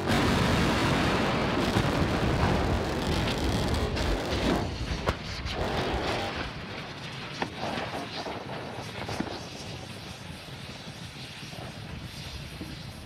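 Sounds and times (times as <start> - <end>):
explosion crackles and pops: 0.0 - 13.0
rocket engines rumbling: 0.0 - 13.0.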